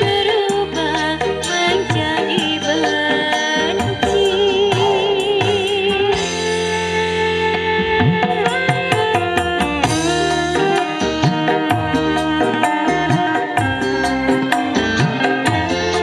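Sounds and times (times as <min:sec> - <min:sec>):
drum beats: 0:00.0 - 0:16.0.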